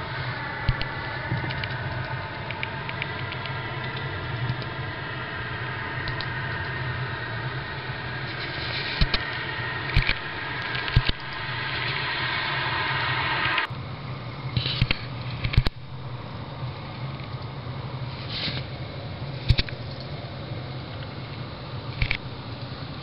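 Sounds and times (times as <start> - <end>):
low rumbling drone with hiss: 0.0 - 23.0.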